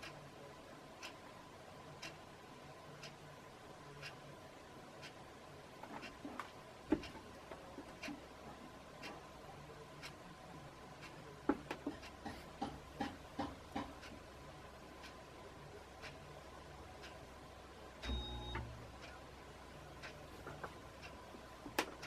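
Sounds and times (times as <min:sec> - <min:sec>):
fan ticks and clicks: 0:00.0 - 0:00.2, 0:01.0 - 0:01.3, 0:01.9 - 0:02.3, 0:03.0 - 0:03.2, 0:03.9 - 0:04.2, 0:05.0 - 0:22.0
ceiling fan humming: 0:00.0 - 0:22.0.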